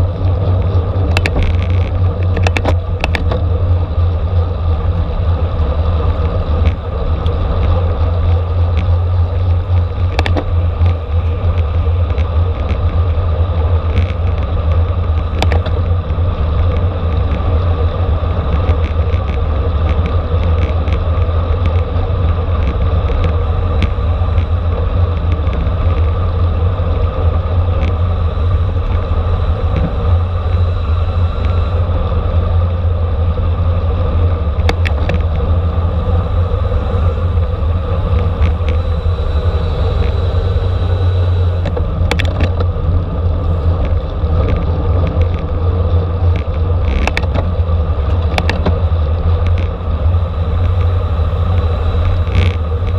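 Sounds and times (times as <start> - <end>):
wind and road noise rumble: 0.0 - 52.9.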